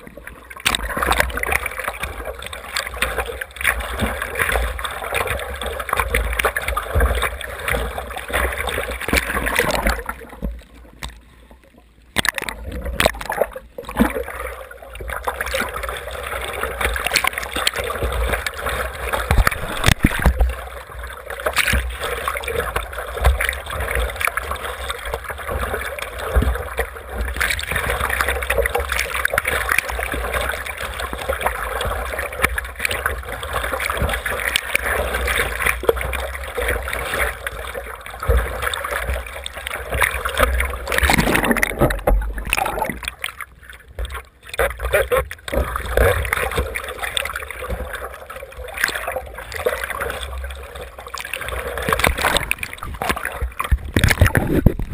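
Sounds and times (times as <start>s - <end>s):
water splashing around surfboard: 0.0s - 54.9s.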